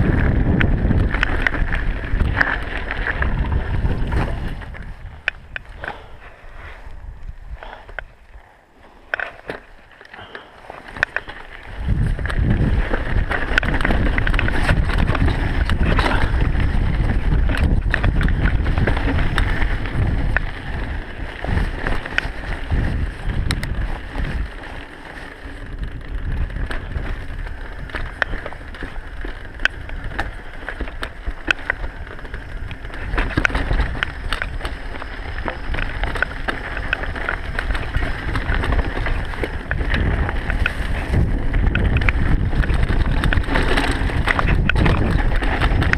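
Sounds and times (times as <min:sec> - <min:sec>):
sharp clicks and rattles: 0:00.0 - 0:06.2, 0:09.0 - 0:45.9
wind buffeting microphone: 0:00.0 - 0:08.4, 0:10.2 - 0:45.9
bike tyres rumbling on dirt: 0:00.0 - 0:45.9.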